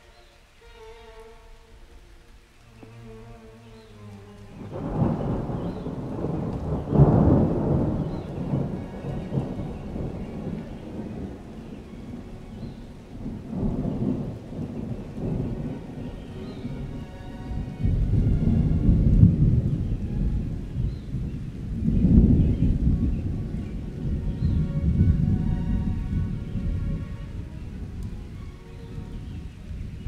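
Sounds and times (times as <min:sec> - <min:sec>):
faint background music: 0:00.0 - 0:30.0
steady rain: 0:00.0 - 0:30.0
thunder rumbling: 0:01.1 - 0:30.0.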